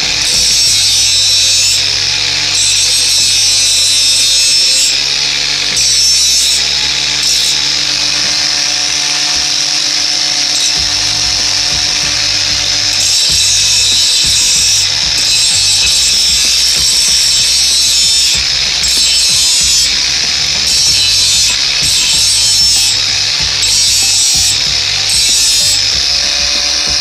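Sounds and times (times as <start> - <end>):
angle grinder motor whining: 0.0 - 27.0
grinding disc on steel: 0.0 - 27.0.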